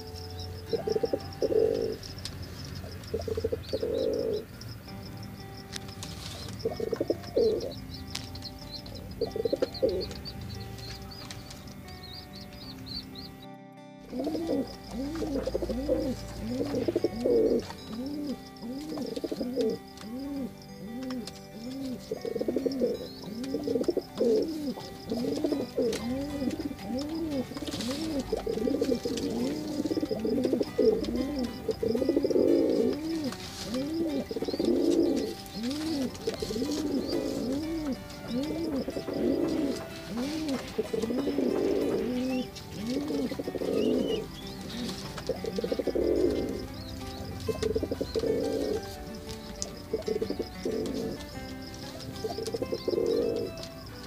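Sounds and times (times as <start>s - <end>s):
pigeon cooing: 0.0s - 12.3s, 14.1s - 54.0s.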